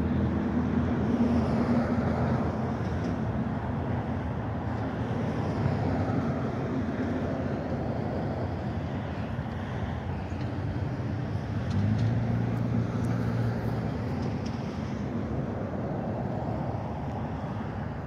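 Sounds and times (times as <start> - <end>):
large engine humming: 0.0 - 18.0.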